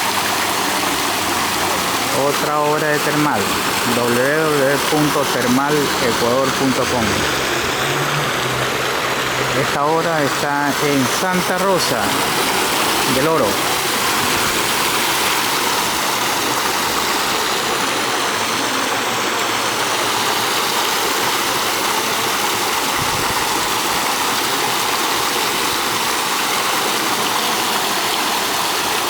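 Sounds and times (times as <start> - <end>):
waterfall pouring into pool: 0.0 - 29.0.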